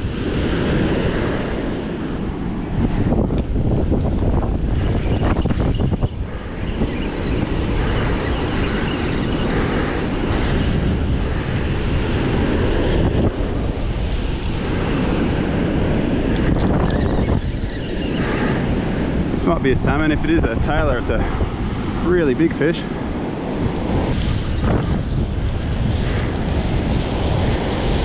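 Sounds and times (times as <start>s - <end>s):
waves breaking: 0.0s - 17.1s, 17.7s - 28.0s
wind buffeting microphone: 0.0s - 28.0s.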